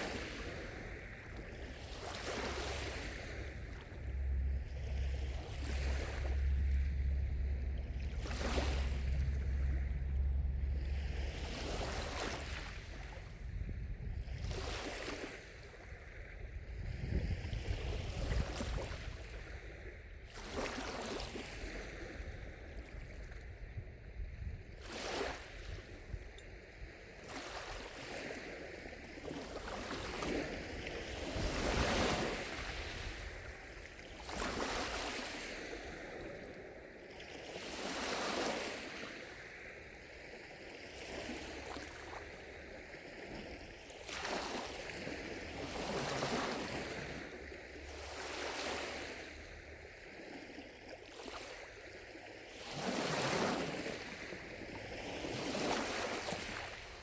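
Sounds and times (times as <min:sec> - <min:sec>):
waves lapping against shore: 0:00.0 - 0:57.0
wind rumble on microphone: 0:00.0 - 0:57.0.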